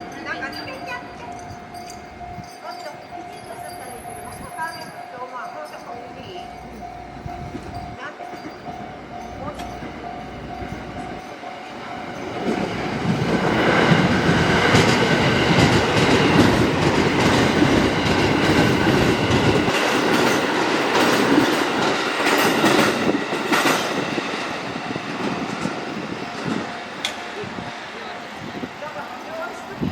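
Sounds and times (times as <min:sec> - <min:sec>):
electric train passing: 0:00.0 - 0:29.9
wheels clattering on rails: 0:00.0 - 0:29.9.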